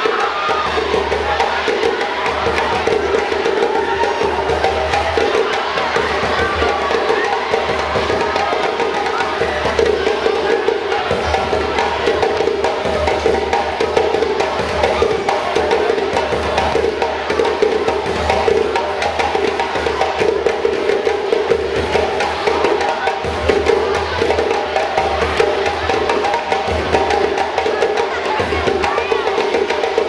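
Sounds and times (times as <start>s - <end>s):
drums in a quick rhythm: 0.0s - 30.0s.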